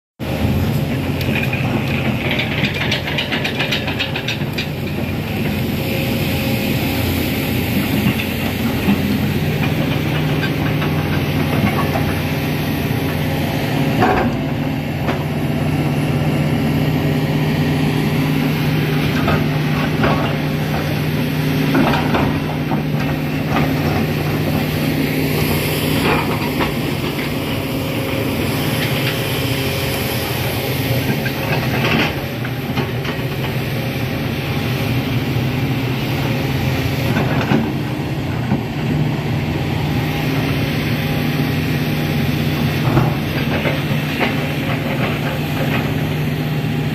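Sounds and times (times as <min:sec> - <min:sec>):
diesel engine running: 0:00.2 - 0:46.9.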